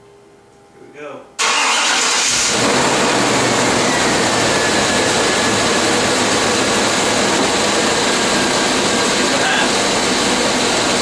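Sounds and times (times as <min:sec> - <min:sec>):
engine running with roar: 0:01.4 - 0:11.0.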